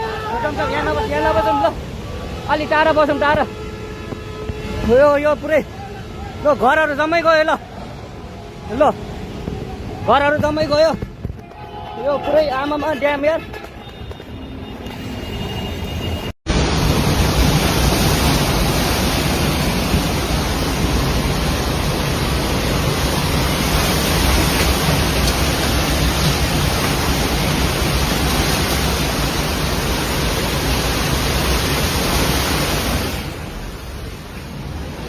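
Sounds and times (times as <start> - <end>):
roar of rushing floodwater: 0.0 - 12.9, 16.5 - 35.0.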